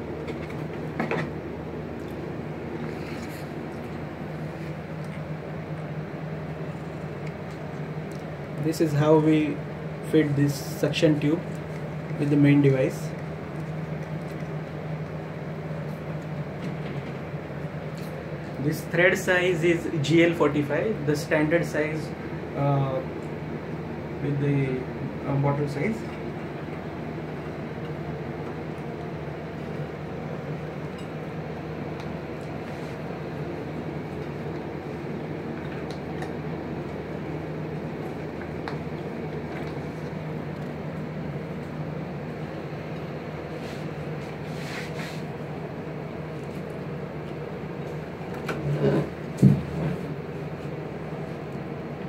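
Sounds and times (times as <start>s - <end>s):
mechanical room hum: 0.0s - 52.0s.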